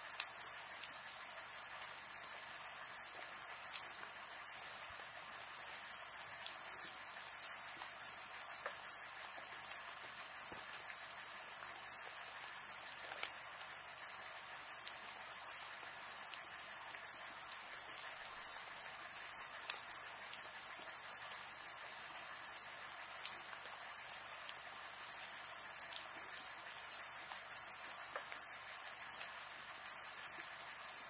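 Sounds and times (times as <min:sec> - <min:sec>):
high-pitched insect pulses: 0:00.0 - 0:31.0
steady insect trill: 0:00.0 - 0:31.0.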